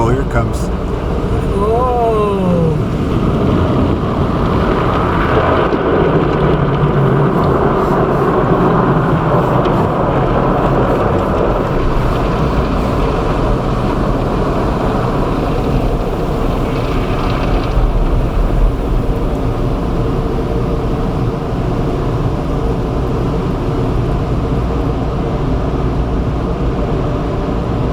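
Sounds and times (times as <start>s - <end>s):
car wash machinery running: 0.0s - 27.9s
water spraying onto car: 0.0s - 27.9s.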